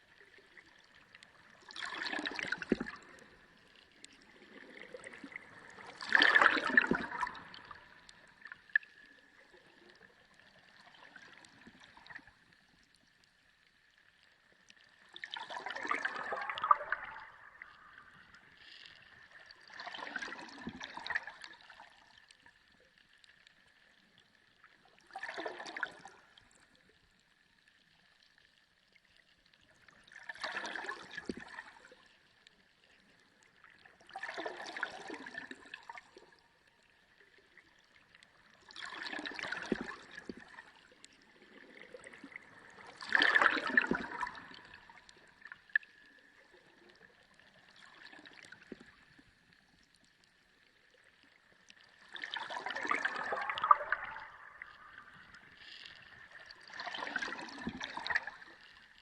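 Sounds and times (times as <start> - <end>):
underwater gurgling rushing water: 0.0 - 27.3, 29.1 - 59.0.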